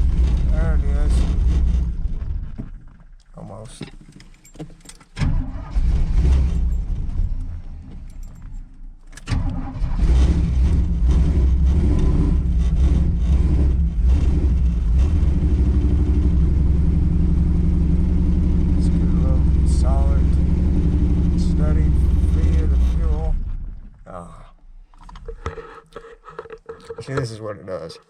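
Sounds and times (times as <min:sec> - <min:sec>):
engine starting and idling lopey: 0:00.0 - 0:27.3.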